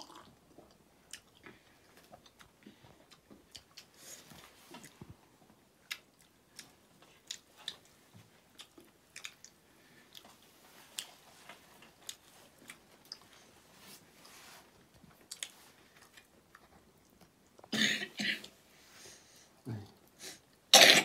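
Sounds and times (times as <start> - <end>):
people chewing food: 0.0 - 20.7.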